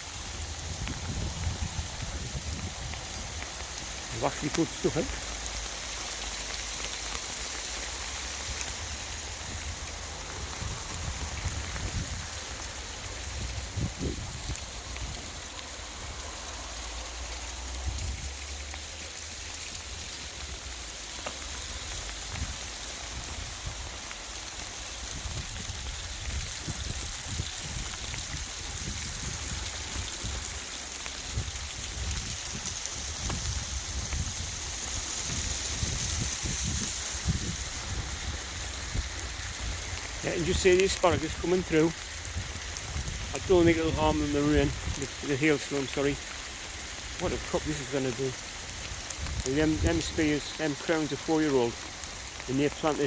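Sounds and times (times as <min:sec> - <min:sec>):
rain and sleet pattering: 0:00.0 - 0:53.0.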